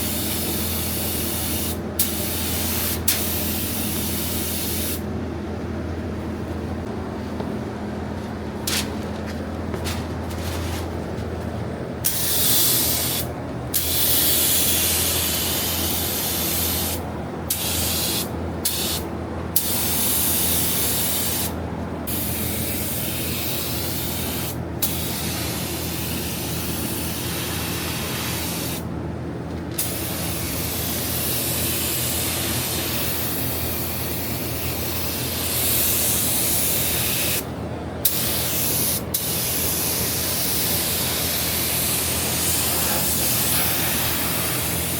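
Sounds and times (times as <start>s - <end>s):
air gun hissing: 0.0s - 5.0s, 12.0s - 19.0s, 19.6s - 28.8s, 29.8s - 44.9s
steady low hum: 0.0s - 44.9s.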